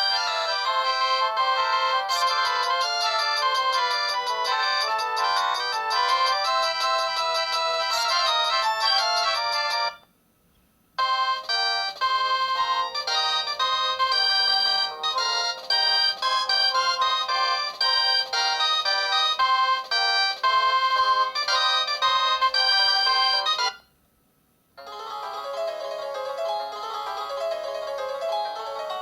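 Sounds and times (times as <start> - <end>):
phone ringtone melody: 0.0 - 10.0, 11.0 - 23.9, 24.8 - 29.0.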